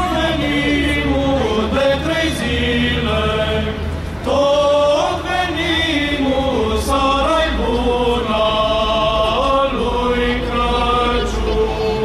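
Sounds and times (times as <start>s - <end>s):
male choir chanting: 0.0s - 12.0s.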